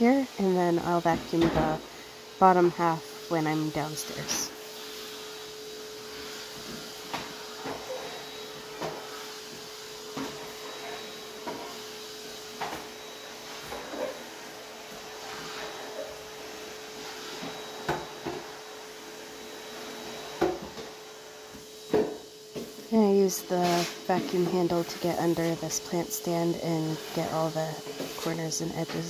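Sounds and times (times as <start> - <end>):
vacuum cleaner humming: 0.0 - 29.0.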